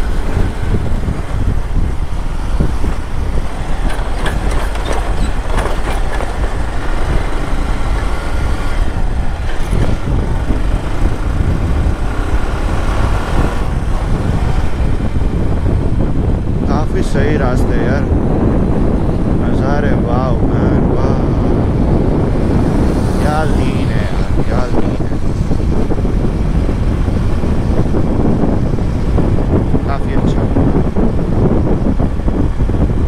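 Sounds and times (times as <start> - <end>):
motorcycle engine drone: 0.0 - 33.0
wind on microphone: 0.0 - 33.0.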